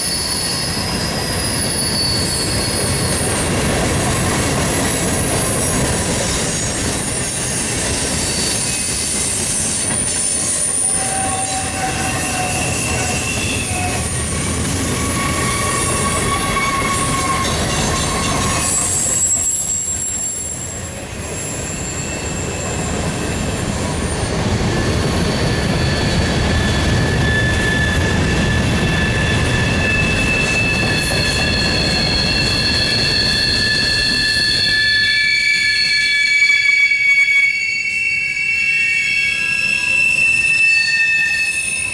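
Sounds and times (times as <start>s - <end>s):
train wheels screeching on rails: 0.0s - 41.9s.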